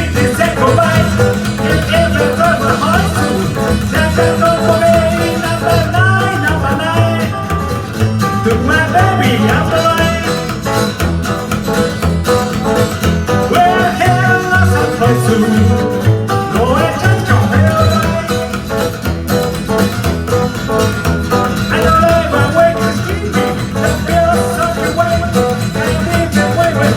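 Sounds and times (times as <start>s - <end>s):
drums: 0.0s - 26.9s
live band playing: 0.0s - 26.9s
plucked guitar: 0.0s - 26.9s
pulsing bass: 0.0s - 26.9s.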